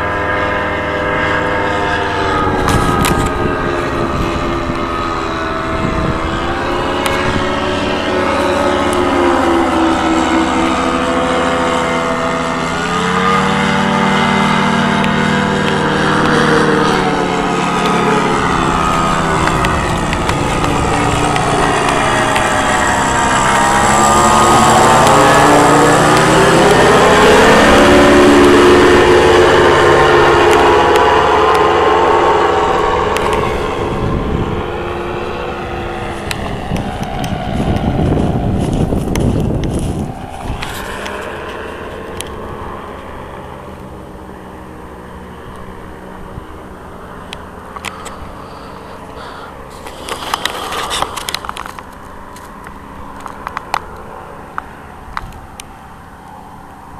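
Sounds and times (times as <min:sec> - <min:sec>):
paramotor engine droning: 0:00.0 - 0:56.9
wind gusts on microphone: 0:00.0 - 0:56.9.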